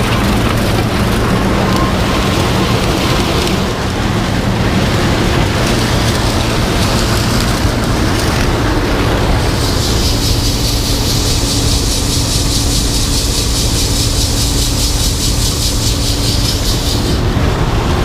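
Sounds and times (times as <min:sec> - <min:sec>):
farm machinery engine rumble: 0:00.0 - 0:18.0
fast high mechanical rattle: 0:00.0 - 0:18.0.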